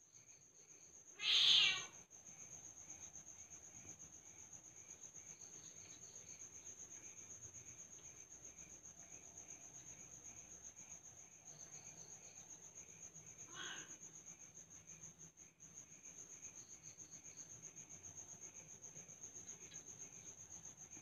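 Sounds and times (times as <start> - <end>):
crickets trilling: 0.1 - 21.0.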